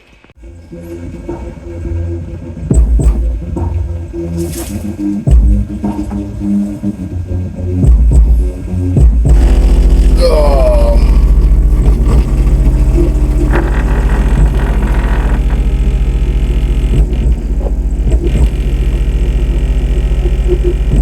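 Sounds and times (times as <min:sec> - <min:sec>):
subwoofer playing deep bass: 0:00.4 - 0:21.0.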